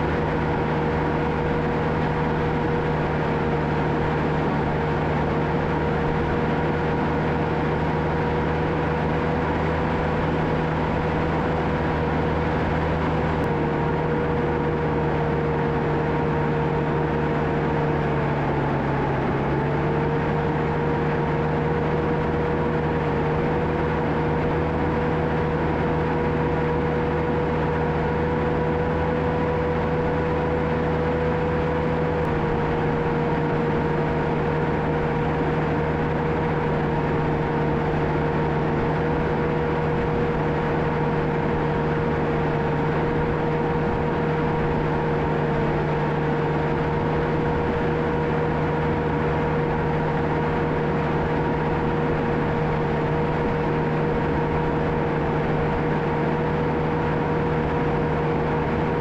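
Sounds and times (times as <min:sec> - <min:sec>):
bulldozer diesel engine running: 0:00.0 - 0:59.0
high steady whine: 0:00.0 - 0:59.0.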